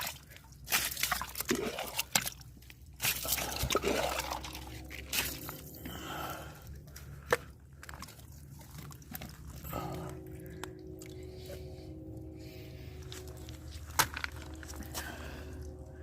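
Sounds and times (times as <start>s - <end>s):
muddy water scooped and scraped: 0.0s - 16.0s.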